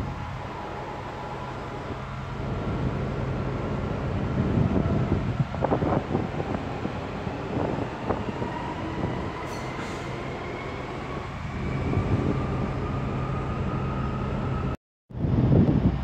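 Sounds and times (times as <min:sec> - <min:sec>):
train running hum: 0:00.0 - 0:16.0
wind noise on microphone: 0:02.0 - 0:13.8, 0:14.5 - 0:16.0.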